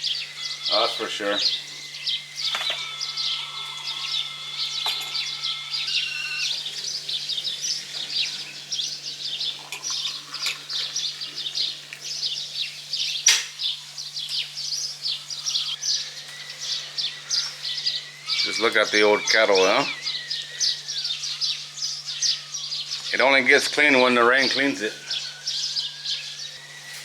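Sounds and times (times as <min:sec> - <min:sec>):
high whine: 0:00.0 - 0:12.7, 0:15.0 - 0:27.0
birds chirping and calling: 0:00.0 - 0:27.0.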